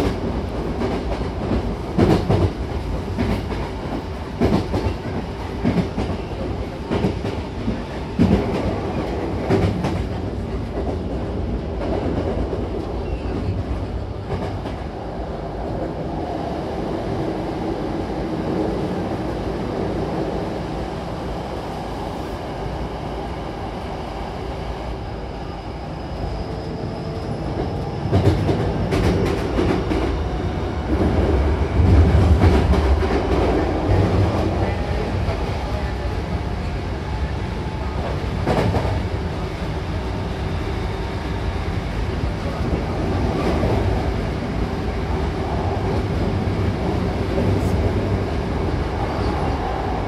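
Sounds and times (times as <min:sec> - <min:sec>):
train wheels rumbling: 0:00.0 - 0:22.0, 0:25.4 - 0:50.0.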